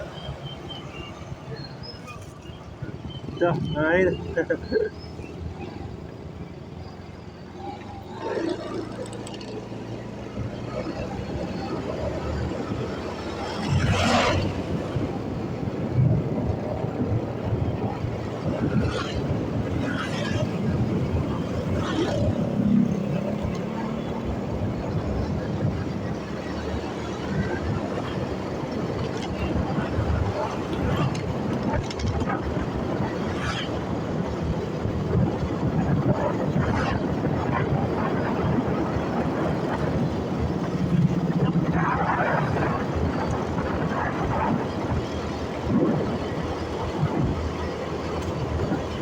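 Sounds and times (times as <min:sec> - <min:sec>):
motorcycle engine rumble: 0:00.0 - 0:49.0
road noise: 0:00.0 - 0:49.0
wind buffeting microphone: 0:00.0 - 0:49.0.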